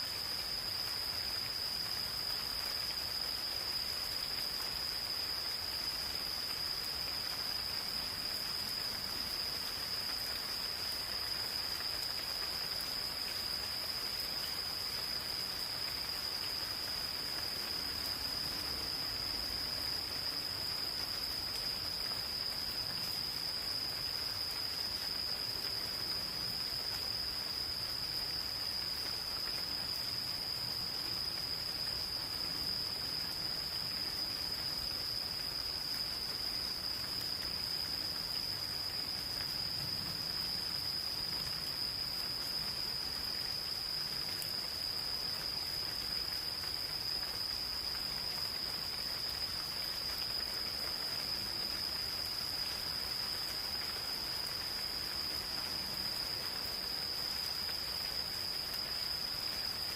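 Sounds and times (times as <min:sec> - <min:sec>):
gentle rain hiss: 0:00.0 - 0:59.9
insects trilling: 0:00.0 - 0:59.9.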